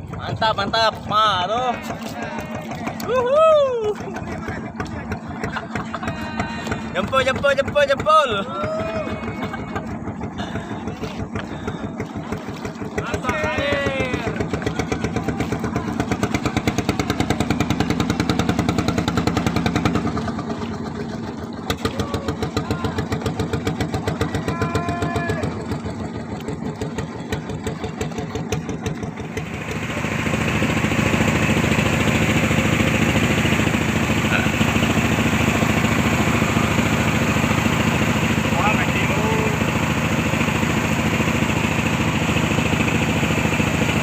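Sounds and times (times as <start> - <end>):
small engine pulsing: 0.0 - 44.0.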